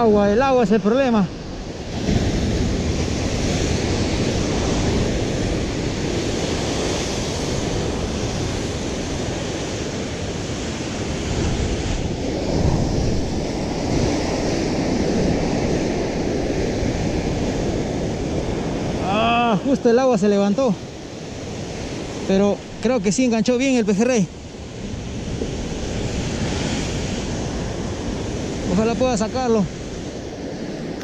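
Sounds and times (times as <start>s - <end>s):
surf breaking over rocks: 0.0s - 31.0s
wind buffeting microphone: 0.0s - 31.0s.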